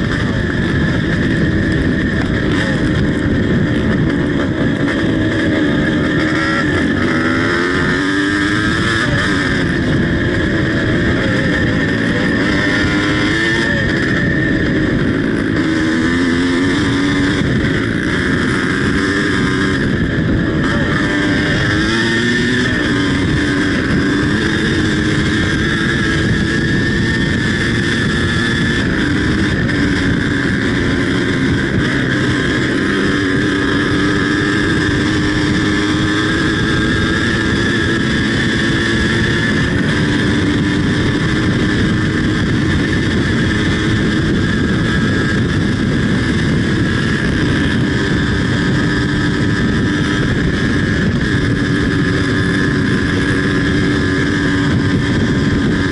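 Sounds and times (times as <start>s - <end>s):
two-stroke engine revving high: 0.0s - 55.9s.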